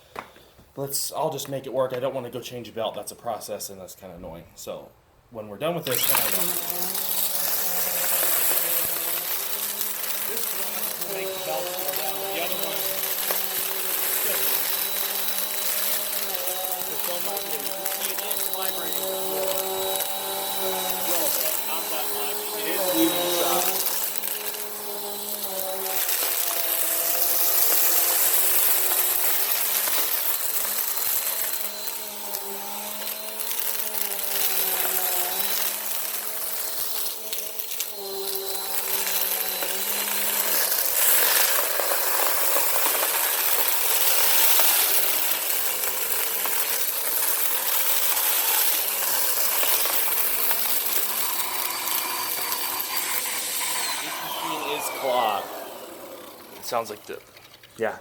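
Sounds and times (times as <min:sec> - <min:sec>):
grit rattling in vacuum: 0:05.8 - 0:57.7
vacuum cleaner running: 0:05.9 - 0:57.2.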